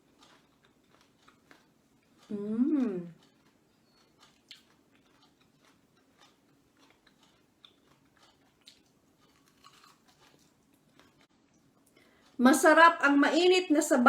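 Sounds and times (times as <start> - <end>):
person chewing: 0.0 - 12.4.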